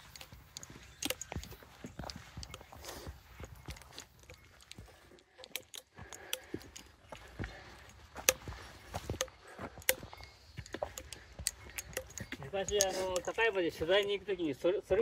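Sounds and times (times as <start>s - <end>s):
footsteps on stony trail: 0.0s - 15.0s
trekking pole tips clicking: 0.0s - 15.0s.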